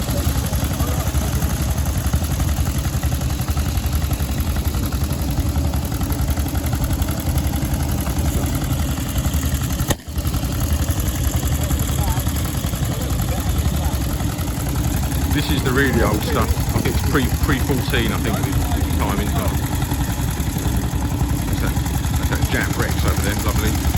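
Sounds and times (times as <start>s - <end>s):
motorcycle engines idling: 0.0s - 23.9s.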